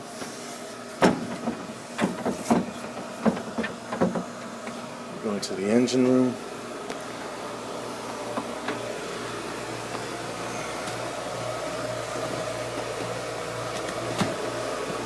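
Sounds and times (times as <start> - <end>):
machinery whirring and humming: 0.0 - 15.0.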